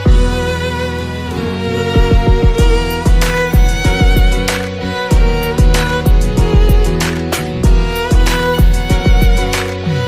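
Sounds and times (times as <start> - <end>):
low regular beat: 0.0 - 0.9, 1.7 - 10.0
violin and strings music: 0.0 - 10.0.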